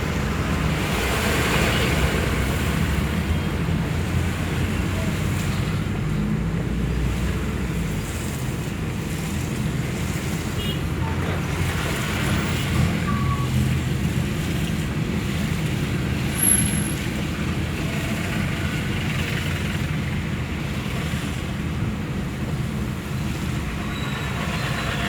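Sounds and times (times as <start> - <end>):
vehicle engines rumbling: 0.0 - 25.0.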